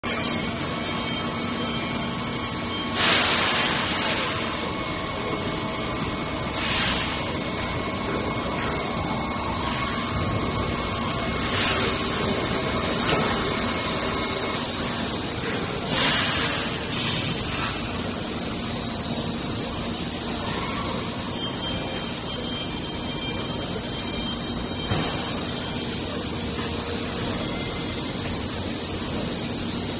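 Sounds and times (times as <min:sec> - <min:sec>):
hydraulic lift motor drone: 0:00.0 - 0:29.9.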